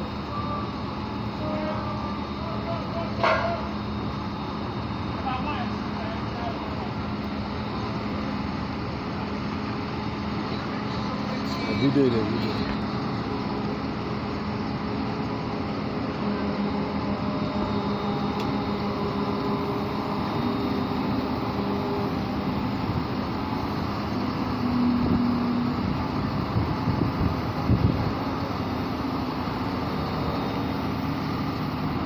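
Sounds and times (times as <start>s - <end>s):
train rumbling with low hum: 0.0s - 32.0s.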